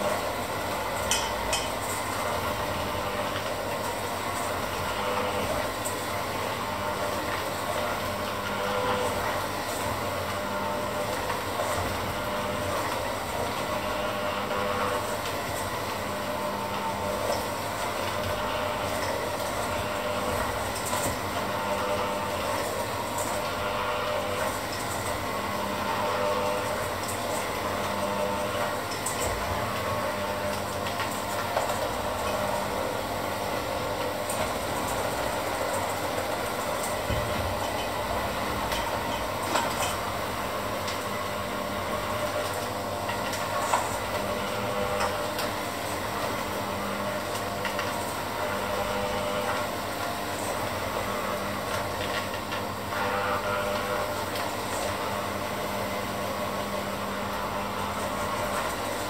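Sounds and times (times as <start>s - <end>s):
electric hand mixer running: 0.0s - 59.0s.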